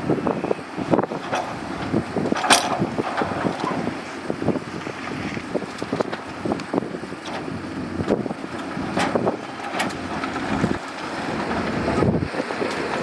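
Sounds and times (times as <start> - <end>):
bulldozer diesel engine rumbling: 0.0 - 13.0
clanks from tracks and gravel: 0.3 - 13.0.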